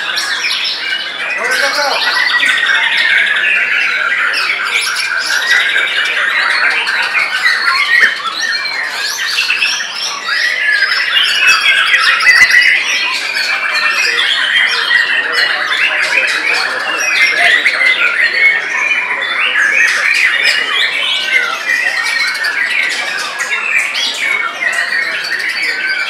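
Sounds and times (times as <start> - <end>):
birds singing whistled trills: 0.0 - 26.0.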